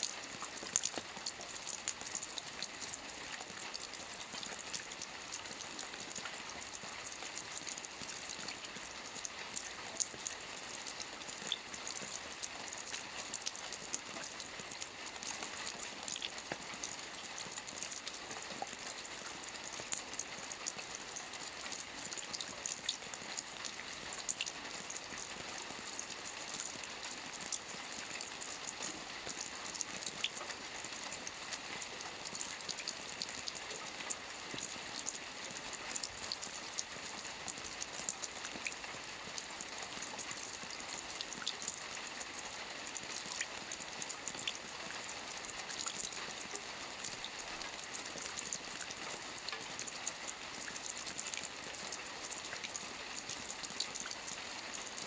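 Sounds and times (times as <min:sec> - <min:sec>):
raindrops pattering on a surface: 0:00.0 - 0:55.0
steady rain falling: 0:00.0 - 0:55.0.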